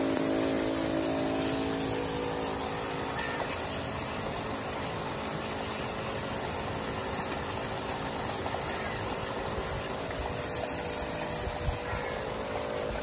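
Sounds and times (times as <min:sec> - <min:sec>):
spray pump motor humming: 0:00.0 - 0:13.0
water spray hissing: 0:00.0 - 0:13.0.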